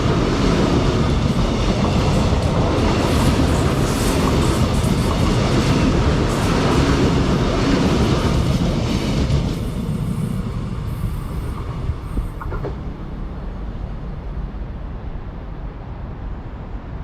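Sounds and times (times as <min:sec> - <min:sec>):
train rumbling past on rails: 0:00.0 - 0:17.0.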